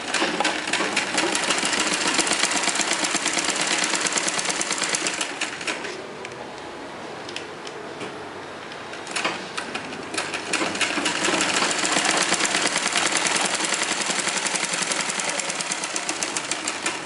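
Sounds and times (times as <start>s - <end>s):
sewing machine stitching: 0.0s - 5.9s, 9.1s - 17.0s.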